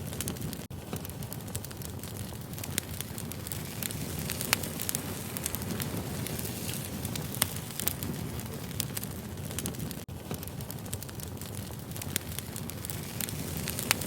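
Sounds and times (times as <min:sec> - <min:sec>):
fire crackles and sharp pops: 0:00.0 - 0:14.0
low rumble of flames: 0:00.0 - 0:14.0.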